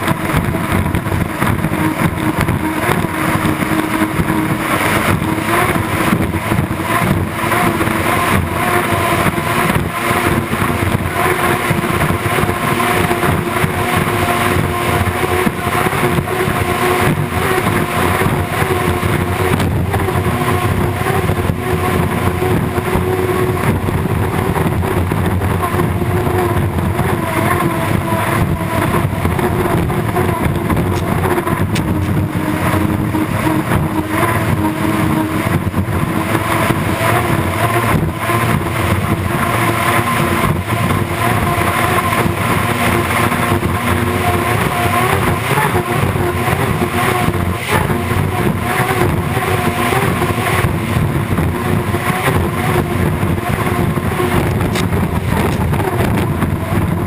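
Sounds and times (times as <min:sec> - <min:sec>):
rush of spray and wind: 0:00.0 - 0:57.0
turbine engine whine: 0:00.0 - 0:57.0.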